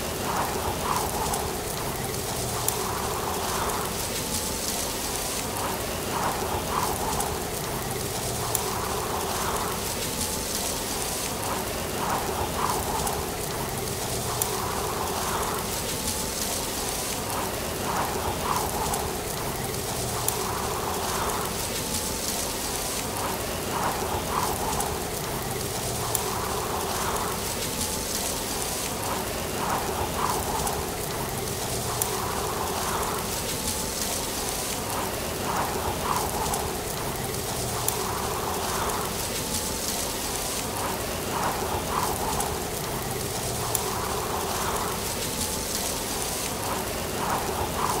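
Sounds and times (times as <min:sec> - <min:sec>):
leaves rustling: 0:00.0 - 0:48.0.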